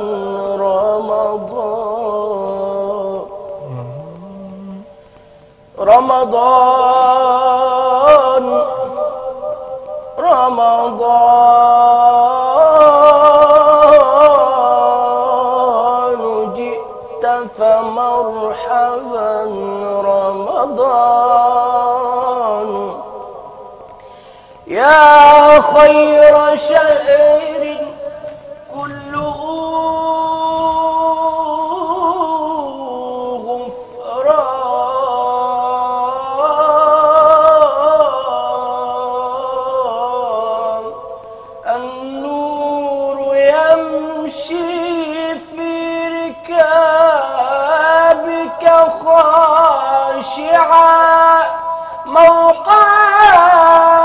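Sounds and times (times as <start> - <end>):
man chanting unaccompanied: 0.0 - 5.0, 5.8 - 23.5, 24.7 - 54.0.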